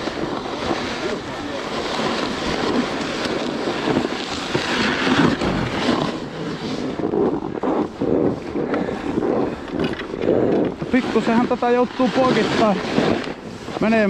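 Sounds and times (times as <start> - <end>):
snowboard scraping on snow: 0.0 - 14.0
wind on microphone: 0.0 - 14.0.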